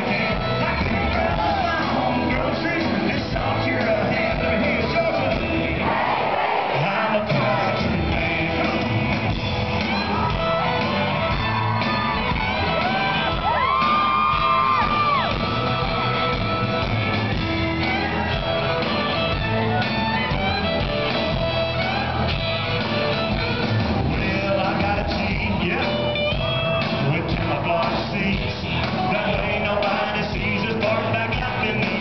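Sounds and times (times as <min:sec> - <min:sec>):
crowd shouting and whooping: 0:00.0 - 0:32.0
live country-rock band playing: 0:00.0 - 0:32.0.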